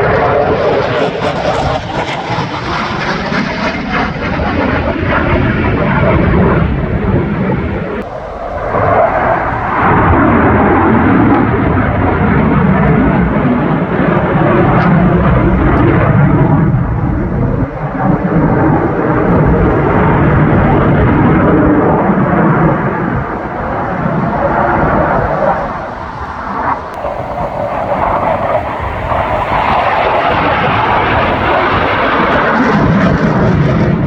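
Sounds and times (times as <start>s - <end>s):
jet engine roaring rush: 0.0s - 34.0s.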